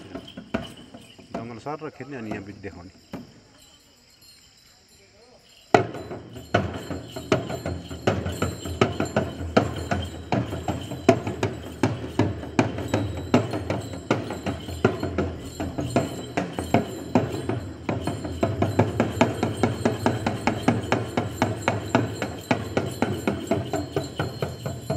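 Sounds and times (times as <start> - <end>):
drum beaten in a quick rhythm: 0.0 - 3.3, 5.7 - 24.9.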